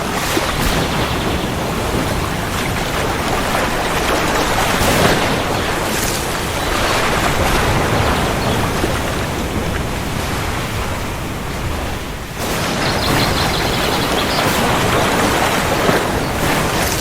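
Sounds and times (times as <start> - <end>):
heavy rain: 0.0 - 17.0
low rumbling thunder: 0.0 - 17.0.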